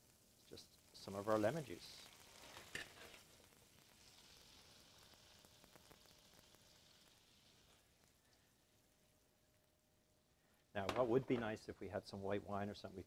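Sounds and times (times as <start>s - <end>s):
sauce sizzling in pan: 0.0s - 13.0s.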